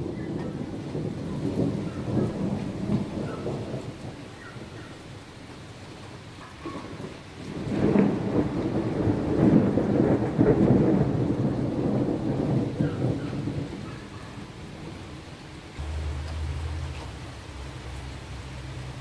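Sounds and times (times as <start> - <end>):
thunder rumbling: 0.0 - 5.2, 6.1 - 19.0
rain: 0.0 - 19.0.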